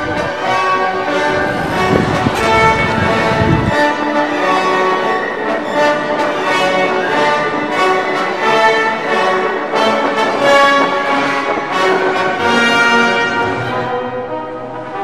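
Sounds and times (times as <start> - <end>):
orchestral music: 0.0 - 15.0.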